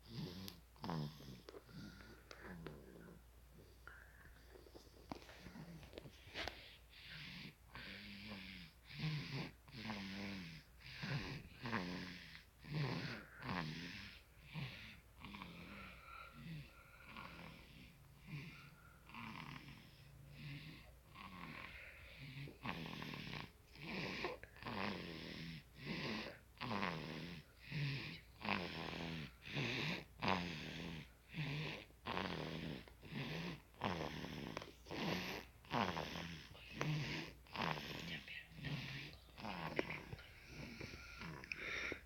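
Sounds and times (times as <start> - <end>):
baby snoring: 0.0 - 42.0.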